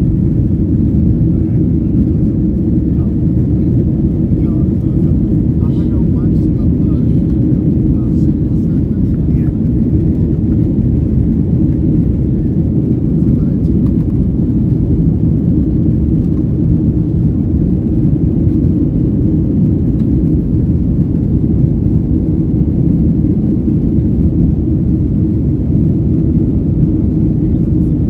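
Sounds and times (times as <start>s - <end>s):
jet engine rumble in cabin: 0.0s - 28.0s.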